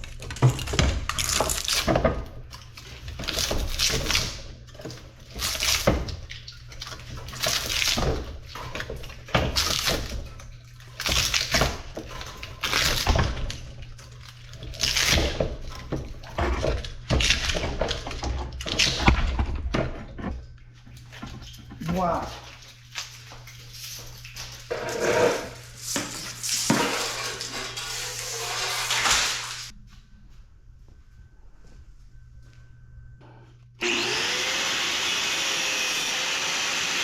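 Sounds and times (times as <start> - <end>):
scraping and clattering of motor windings: 0.0 - 29.7
low steady hum: 0.0 - 33.8.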